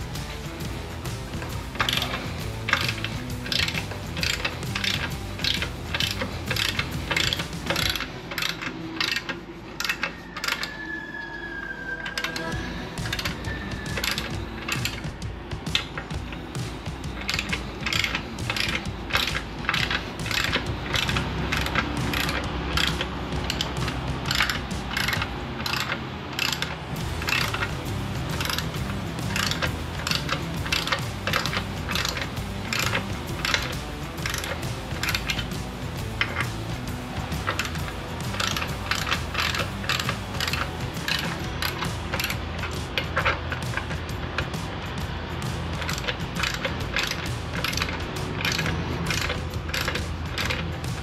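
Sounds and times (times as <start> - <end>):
ratchet wrench clicking: 0.0 - 10.8, 12.1 - 51.0.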